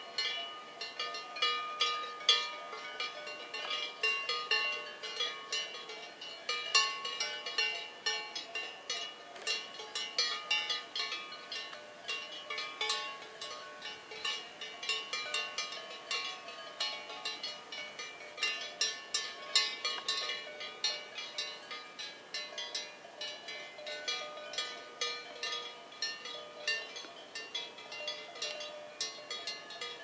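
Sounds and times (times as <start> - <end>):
cow bells clanking: 0.0 - 30.0.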